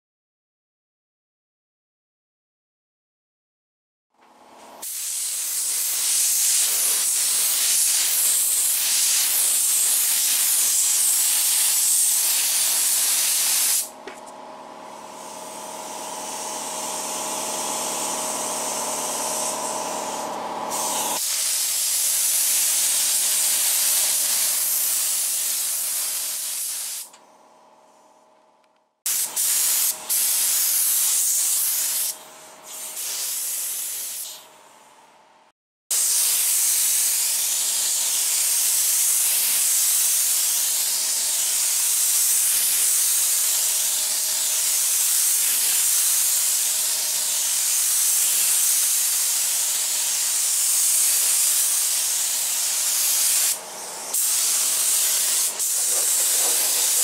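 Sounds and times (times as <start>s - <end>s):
spray gun hissing: 4.8s - 13.9s, 15.0s - 27.1s, 29.1s - 34.4s, 35.9s - 57.0s.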